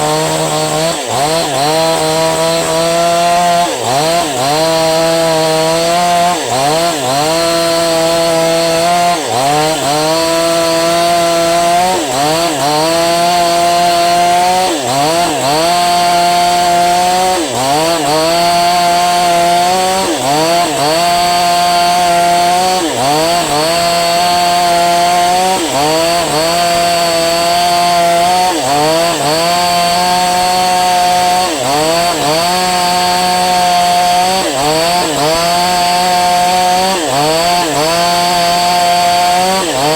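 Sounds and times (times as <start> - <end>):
chainsaw running at high speed: 0.0 - 39.9.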